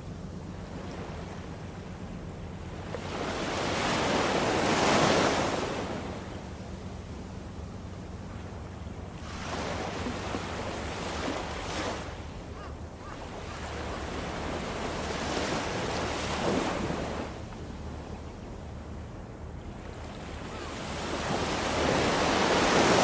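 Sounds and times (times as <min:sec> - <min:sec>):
small waves breaking on shore: 0:00.0 - 0:06.7, 0:08.2 - 0:23.0.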